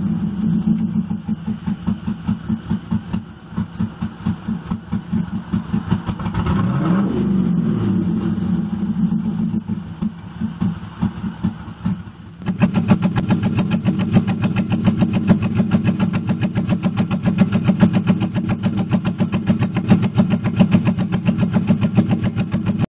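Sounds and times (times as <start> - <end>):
engine revving: 0.0 - 22.9
misfiring car engine pulsing: 0.0 - 22.9.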